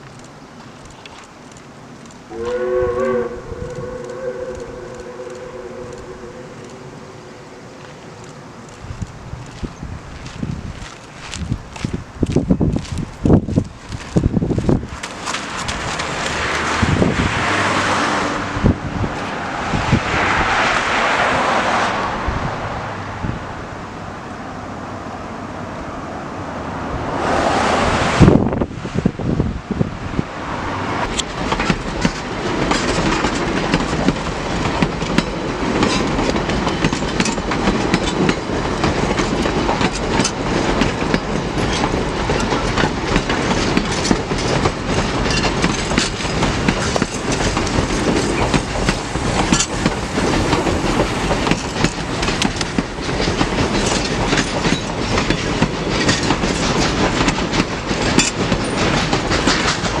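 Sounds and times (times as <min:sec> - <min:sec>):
train wheels clicking over rail joints: 0:00.0 - 0:20.0, 0:31.0 - 1:00.0
train rolling rumble: 0:00.0 - 1:00.0.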